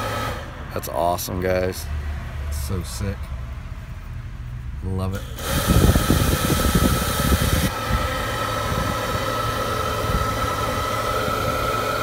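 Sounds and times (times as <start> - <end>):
electric fan blowing air: 0.0 - 3.9, 4.6 - 12.0
engine running: 0.0 - 12.0.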